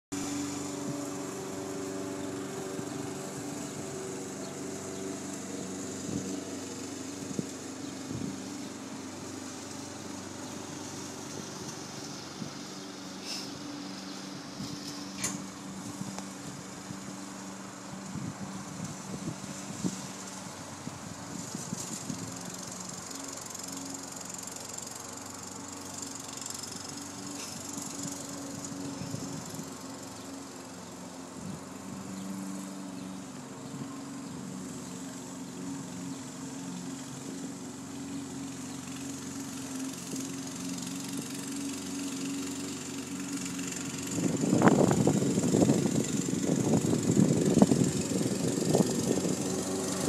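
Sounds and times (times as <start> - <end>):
lawn mower engine running: 0.1 - 50.0.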